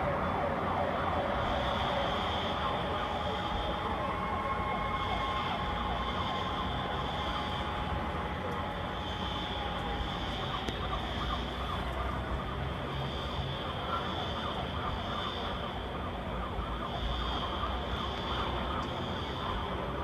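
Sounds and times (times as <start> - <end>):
dense steady background noise: 0.0 - 20.0
sirens wailing: 0.0 - 20.0.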